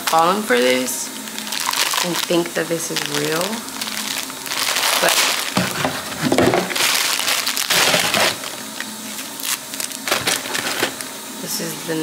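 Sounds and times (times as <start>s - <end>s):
plastic wrapping crinkling: 0.0s - 11.2s.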